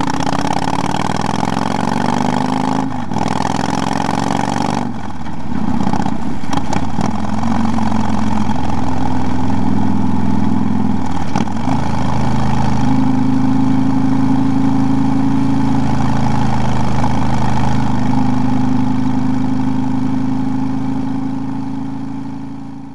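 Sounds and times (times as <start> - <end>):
motorcycle engine cruising: 0.0 - 22.9
wind and road noise: 0.0 - 22.9.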